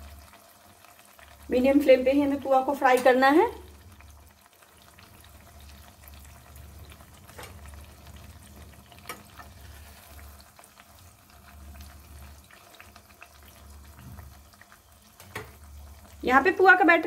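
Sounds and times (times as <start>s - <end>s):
food sizzling in oil: 0.0s - 17.0s
oil popping and crackling: 0.0s - 17.0s.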